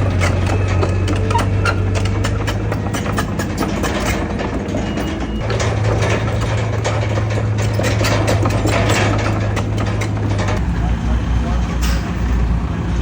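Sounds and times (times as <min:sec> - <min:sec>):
clicks and rattles: 0:00.0 - 0:10.6
heavy diesel engine droning: 0:00.0 - 0:13.0.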